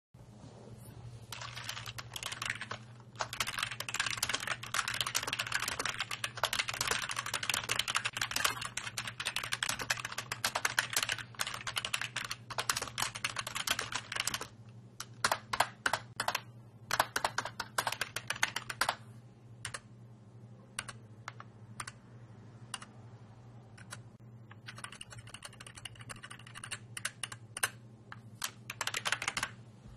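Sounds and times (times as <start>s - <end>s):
keyboard typing: 1.3s - 19.0s, 19.6s - 19.9s, 20.7s - 22.1s, 22.7s - 23.0s, 23.7s - 29.6s.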